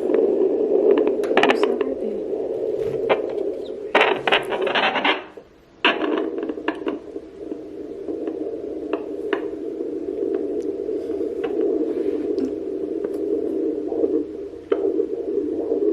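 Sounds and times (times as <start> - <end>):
fetal doppler speaker hiss: 0.0 - 15.9
probe scraping crackles: 0.0 - 15.9.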